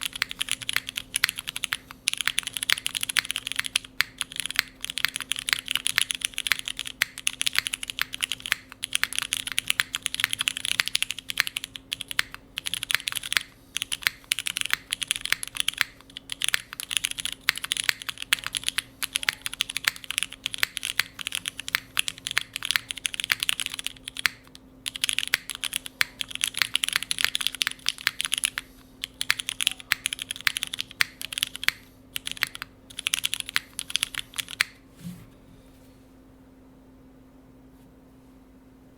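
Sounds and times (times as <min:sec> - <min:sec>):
mechanical keyboard typing: 0:00.0 - 0:34.8.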